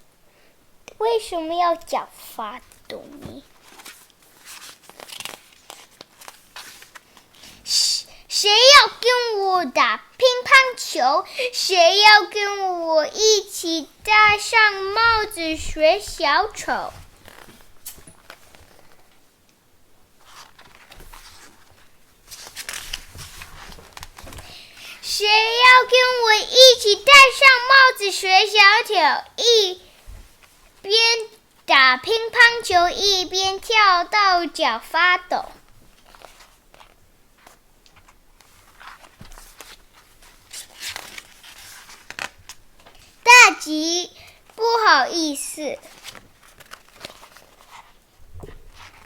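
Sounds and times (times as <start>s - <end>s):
faint paper rustling: 1.7s - 7.8s, 13.0s - 19.3s, 20.0s - 43.3s, 44.2s - 49.0s.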